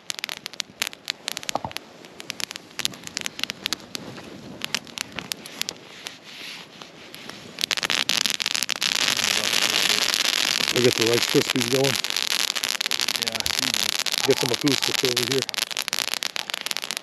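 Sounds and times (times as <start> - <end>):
campfire crackling and popping: 0.0 - 17.0
steady hiss: 0.0 - 17.0.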